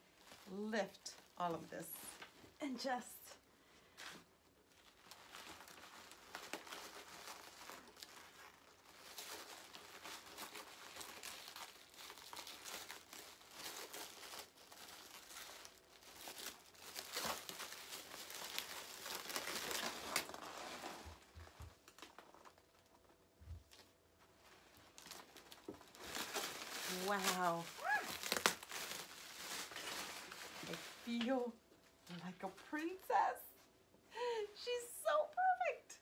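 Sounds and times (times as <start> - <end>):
plastic wrap crinkling: 0.0 - 35.8.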